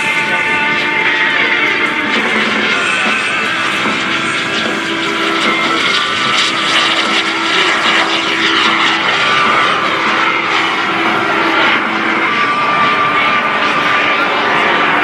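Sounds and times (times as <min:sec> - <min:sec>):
small jet engine running: 0:00.0 - 0:15.0.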